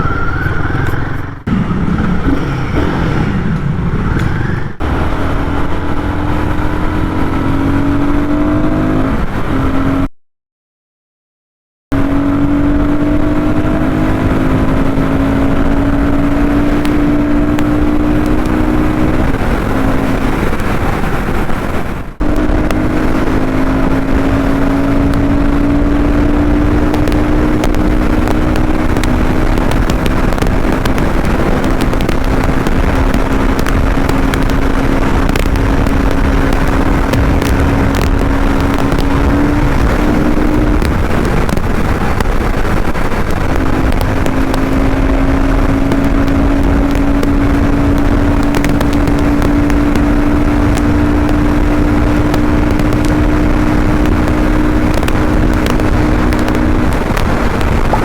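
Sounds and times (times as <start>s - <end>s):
motorcycle engine high revs: 0.0s - 10.1s, 11.9s - 58.0s
wind rush: 0.0s - 10.1s, 11.9s - 58.0s.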